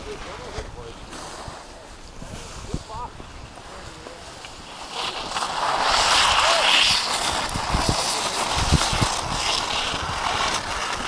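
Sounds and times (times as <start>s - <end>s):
skis scraping over snow: 0.0s - 11.0s.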